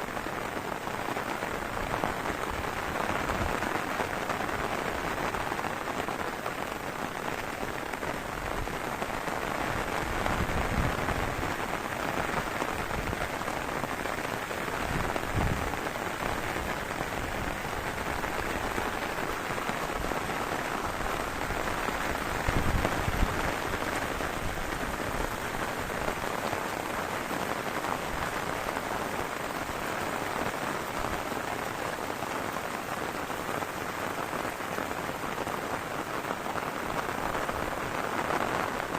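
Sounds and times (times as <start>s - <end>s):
heavy rain hissing: 0.0s - 38.9s
low wind gusts: 0.0s - 38.9s.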